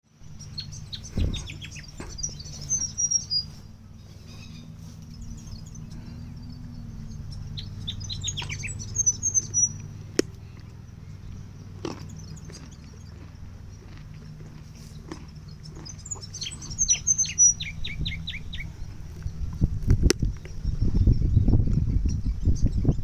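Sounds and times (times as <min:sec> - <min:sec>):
small birds chirping: 0:00.1 - 0:23.0
steady low hum: 0:00.1 - 0:23.0.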